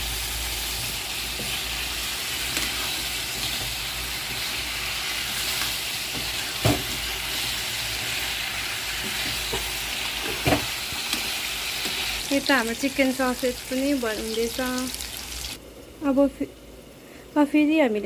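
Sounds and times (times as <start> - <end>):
gravy sizzling in a pan: 0.0 - 16.9.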